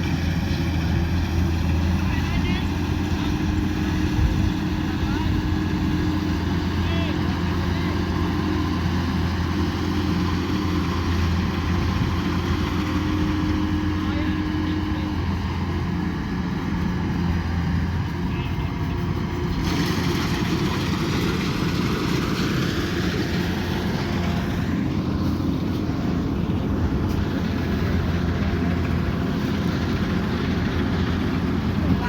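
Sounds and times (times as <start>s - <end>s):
combine harvester engine hum: 0.0s - 32.0s.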